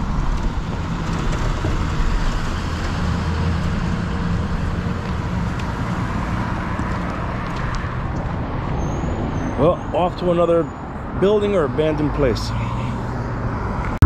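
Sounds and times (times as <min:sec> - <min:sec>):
cars and bus driving past: 0:00.0 - 0:14.0.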